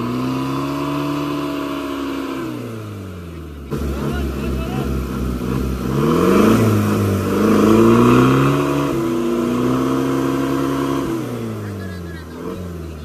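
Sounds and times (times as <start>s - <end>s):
suv engine revving hard: 0.0s - 13.0s.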